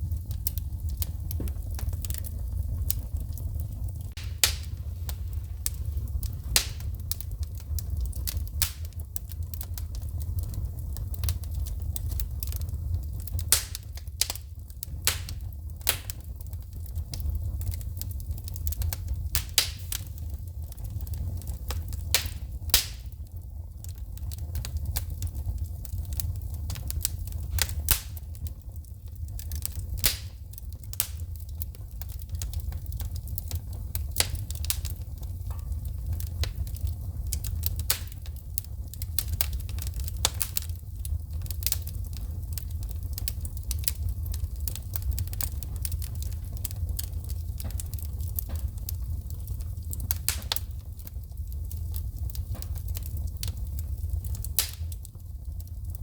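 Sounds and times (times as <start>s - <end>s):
sparks popping and snapping: 0.0s - 55.8s
low rumble of flames: 0.0s - 56.0s
wood fire crackling: 0.0s - 56.0s.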